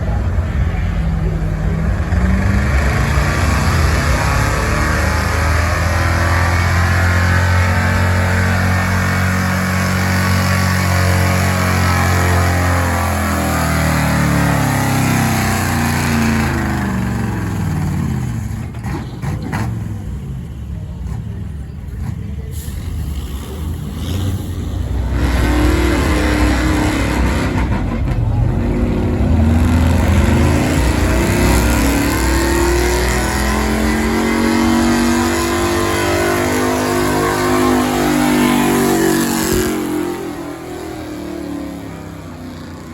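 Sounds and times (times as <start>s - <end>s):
truck engine at full throttle: 0.0s - 42.9s.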